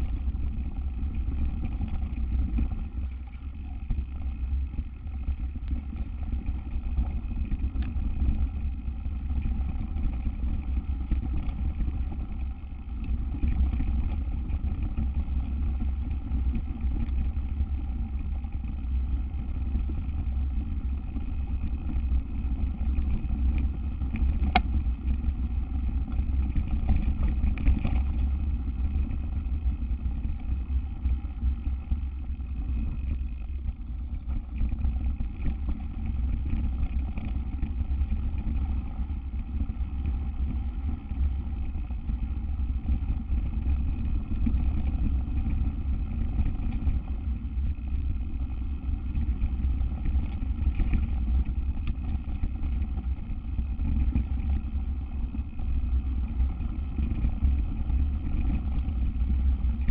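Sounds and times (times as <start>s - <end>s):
bike rolling on dirt trail: 0.0s - 59.9s.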